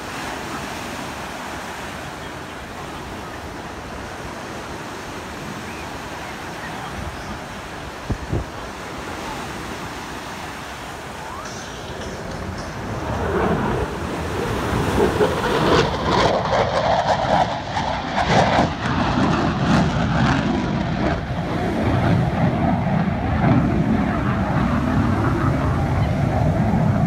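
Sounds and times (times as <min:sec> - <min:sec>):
waves breaking on beach: 0:00.0 - 0:27.0
wind buffeting microphone: 0:00.0 - 0:27.0.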